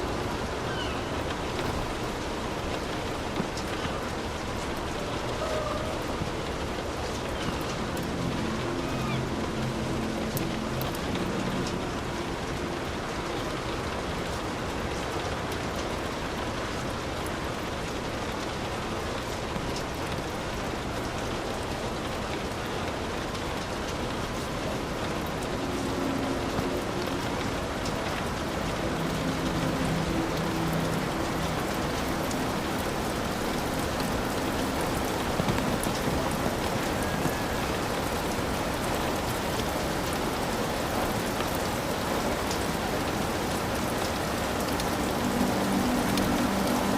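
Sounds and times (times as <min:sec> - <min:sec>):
heavy rain on a roof: 0:00.0 - 0:46.9.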